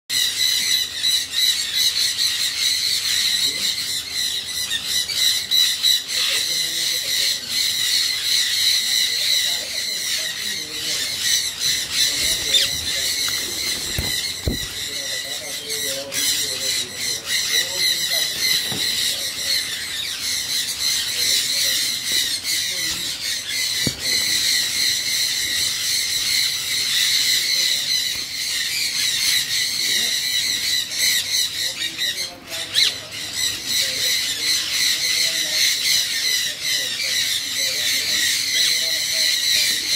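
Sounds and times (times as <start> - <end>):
parakeets squawking: 0.1 - 39.9.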